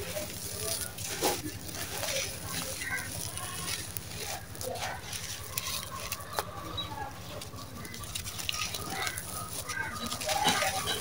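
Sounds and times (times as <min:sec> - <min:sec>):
faint background calls: 0:00.0 - 0:11.0
hands crumbling gritty powder: 0:00.0 - 0:11.0.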